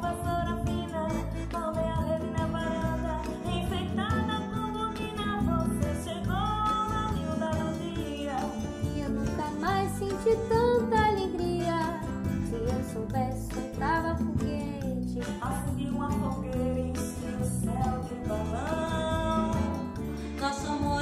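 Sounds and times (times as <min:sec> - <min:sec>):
bass: 0:00.0 - 0:21.0
percussion beat: 0:00.0 - 0:21.0
plucked guitar: 0:00.0 - 0:21.0.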